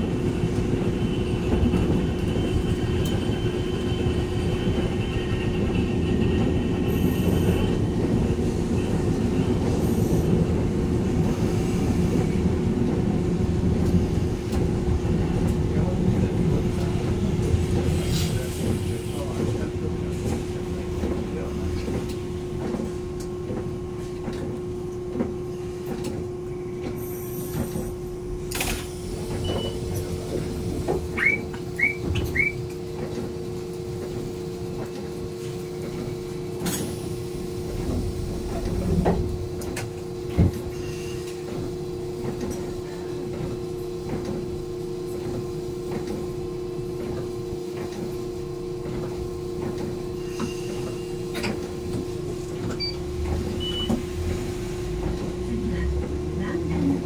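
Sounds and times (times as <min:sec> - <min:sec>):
tram electrical hum: 0:00.0 - 0:57.0.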